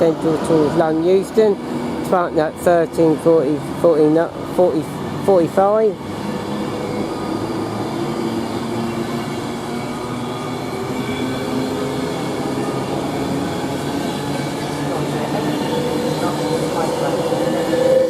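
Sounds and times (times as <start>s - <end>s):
electric train pulling out: 0.0s - 18.0s.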